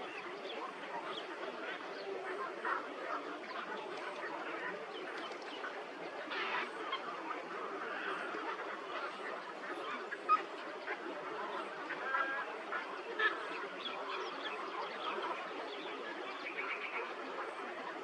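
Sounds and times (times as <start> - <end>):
flock of birds chattering: 0.0 - 18.0.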